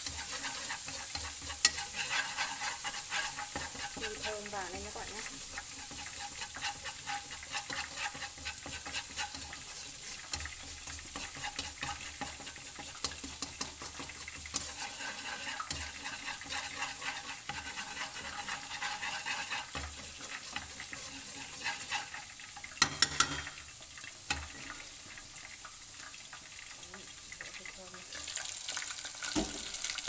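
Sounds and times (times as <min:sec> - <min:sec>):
chopsticks scraping and tapping pan: 0:00.0 - 0:25.2
aromatics sizzling in oil: 0:00.0 - 0:30.0.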